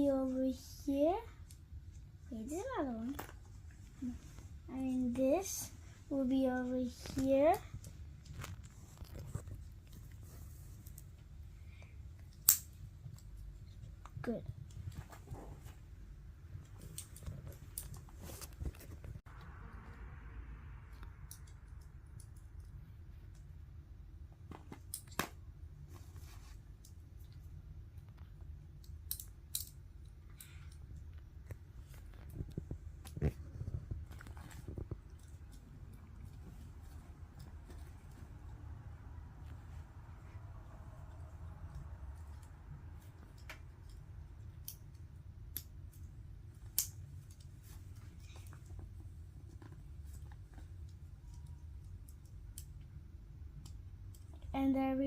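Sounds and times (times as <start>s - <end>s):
faint rustling of pieces: 0.0s - 19.3s, 25.7s - 55.0s
low steady background hum: 0.0s - 55.0s.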